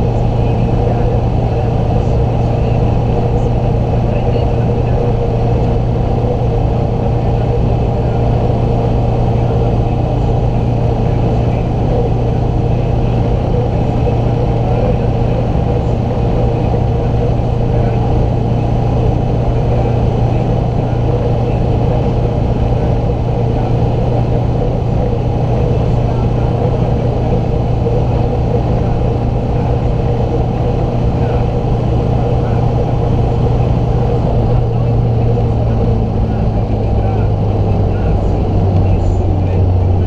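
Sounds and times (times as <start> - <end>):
diesel engine droning at high revs: 0.0 - 40.0.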